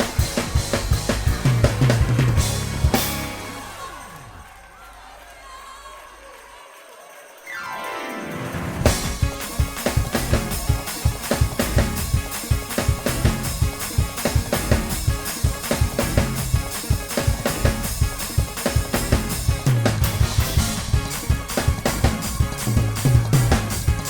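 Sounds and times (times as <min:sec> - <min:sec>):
fast hard drum kit playing: 0:00.0 - 0:04.3, 0:08.4 - 0:24.0
bass notes: 0:00.0 - 0:04.4, 0:08.8 - 0:24.0
sustained keyboard chords: 0:00.0 - 0:04.7, 0:07.6 - 0:24.0.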